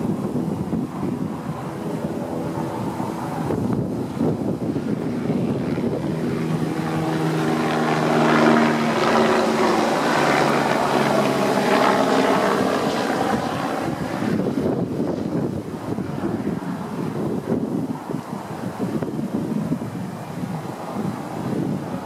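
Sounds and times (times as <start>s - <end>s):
passing engine droning hum: 0.0s - 22.0s.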